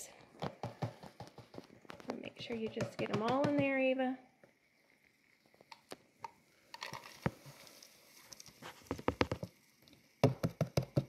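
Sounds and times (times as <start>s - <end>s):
roaches clicking on plastic: 0.3s - 3.8s, 5.4s - 11.0s.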